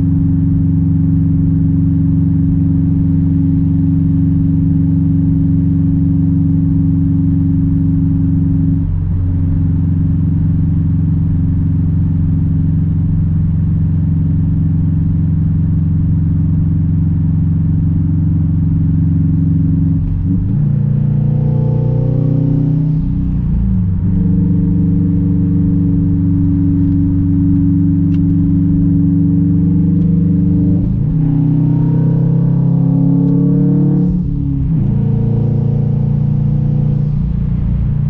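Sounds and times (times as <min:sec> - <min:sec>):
car exhaust droning: 0:00.0 - 0:38.0.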